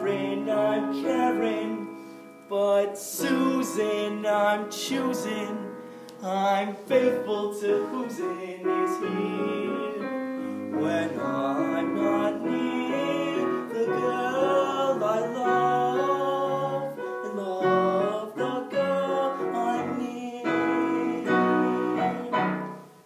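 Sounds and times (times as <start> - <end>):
piano accompaniment: 0.0 - 23.0
young man singing show tune: 0.0 - 23.0.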